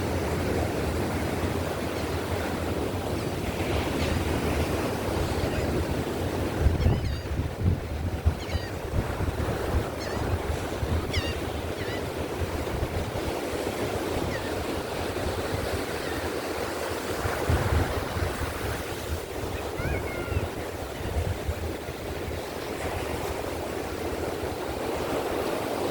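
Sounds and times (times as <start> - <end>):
ocean surf washing on beach: 0.0 - 25.9
wind buffeting microphone: 0.0 - 25.9.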